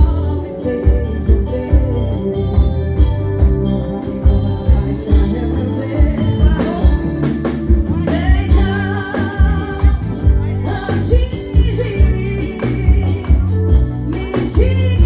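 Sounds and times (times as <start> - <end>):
woman singing with vibrato: 0.0 - 2.8, 4.3 - 15.0
keyboard: 0.0 - 15.0
steady kick drum beat: 0.0 - 15.0.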